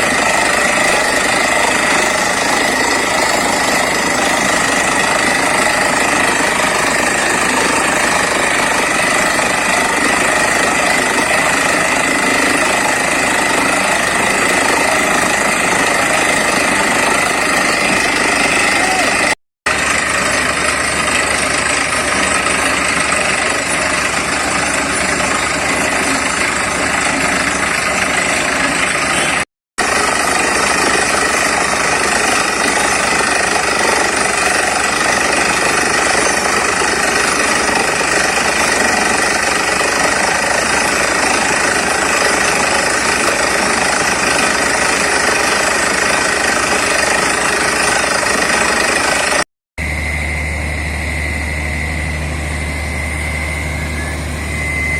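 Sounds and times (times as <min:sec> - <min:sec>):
drilling rig and compressor running: 0:00.0 - 0:54.9.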